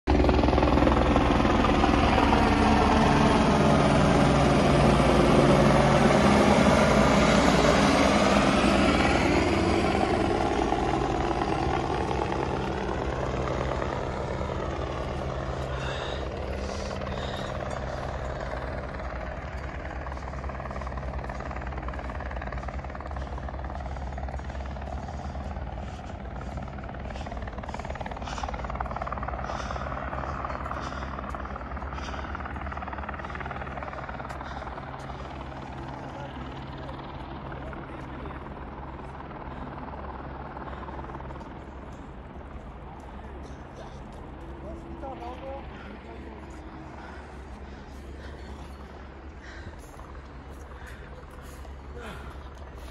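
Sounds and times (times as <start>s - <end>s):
helicopter flying: 0.0s - 52.9s.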